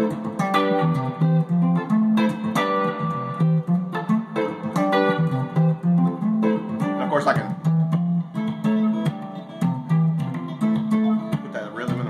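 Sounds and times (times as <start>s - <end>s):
guitar playing chords: 0.0s - 12.0s.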